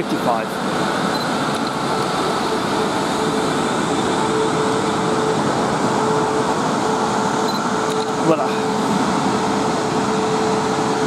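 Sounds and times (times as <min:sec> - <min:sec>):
train wheels rushing on rail: 0:00.0 - 0:11.0
train motors whining: 0:00.6 - 0:11.0.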